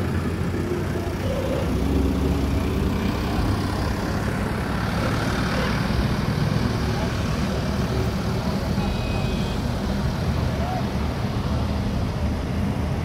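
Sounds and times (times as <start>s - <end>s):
outdoor traffic noise: 0.0s - 13.0s
vehicle engine rumble: 0.0s - 13.0s.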